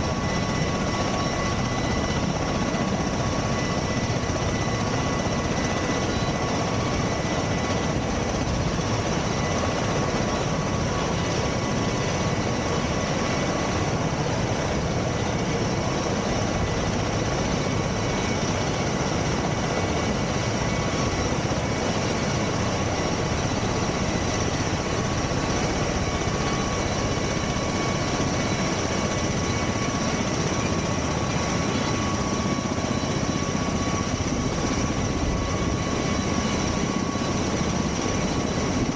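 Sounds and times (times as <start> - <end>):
aircraft engines roaring: 0.0 - 38.9
high turbine whine: 0.0 - 38.9.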